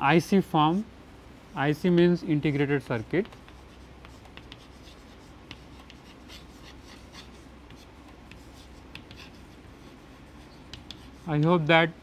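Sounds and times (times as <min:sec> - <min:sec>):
chalk writing on chalkboard: 0:01.9 - 0:11.9.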